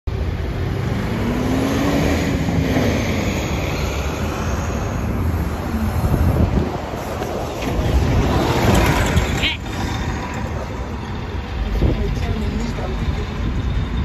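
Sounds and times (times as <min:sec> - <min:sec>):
bus driving past: 0:00.1 - 0:14.0
road traffic rumble: 0:00.1 - 0:14.0.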